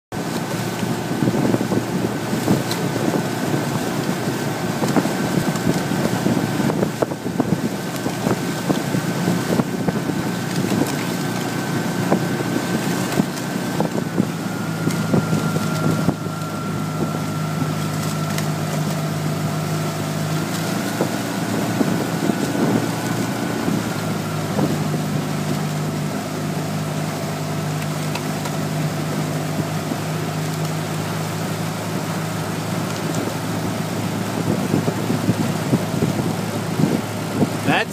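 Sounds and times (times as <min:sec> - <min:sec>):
boat motor whining: 0:00.1 - 0:37.9
wind buffeting microphone: 0:00.2 - 0:28.0, 0:28.6 - 0:37.9.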